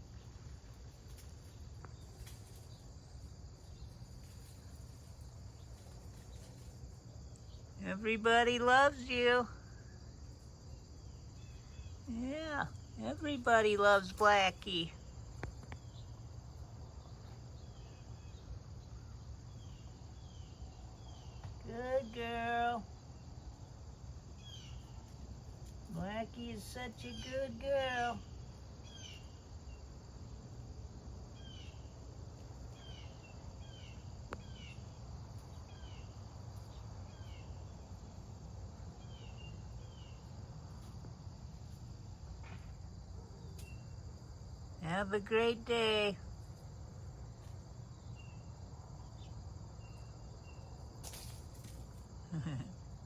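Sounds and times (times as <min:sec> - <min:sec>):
crickets droning: 0:00.0 - 0:53.0
insects chorus: 0:00.0 - 0:53.0.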